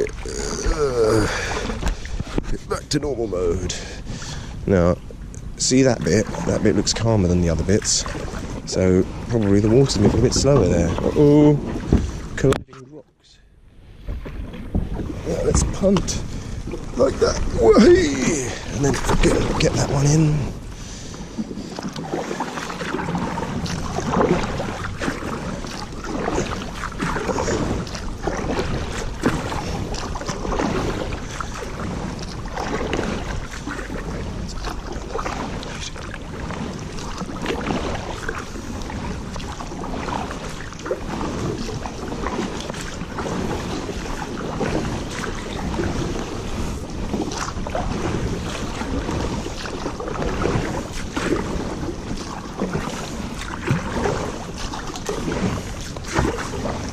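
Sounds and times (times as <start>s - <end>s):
wind rumbling on microphone: 0.0s - 12.8s, 13.7s - 56.9s
water rushing and splashing: 0.0s - 13.2s, 13.8s - 56.9s.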